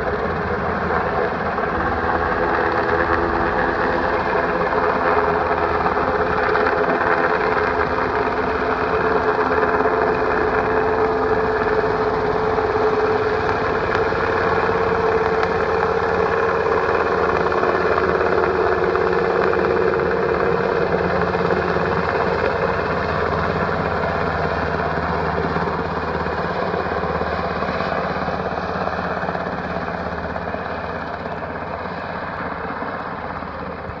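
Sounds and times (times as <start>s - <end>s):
helicopter rotor and engines: 0.0s - 34.0s.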